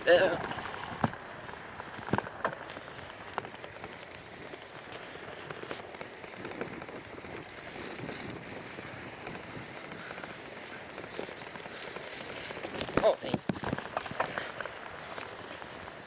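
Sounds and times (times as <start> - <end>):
bicycle tyres rolling on wet trail: 0.0 - 16.0.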